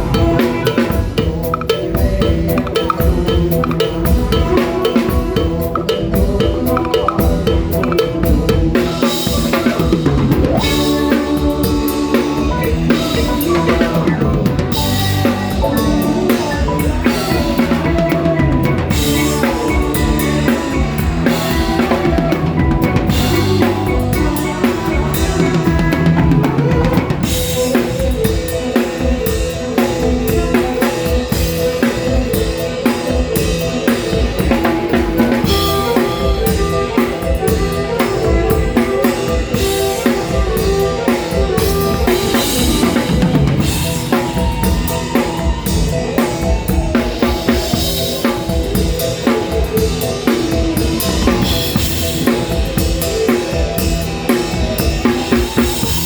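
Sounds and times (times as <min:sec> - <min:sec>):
drum kit beat: 0:00.0 - 0:56.0
live rock band playing: 0:00.0 - 0:56.0.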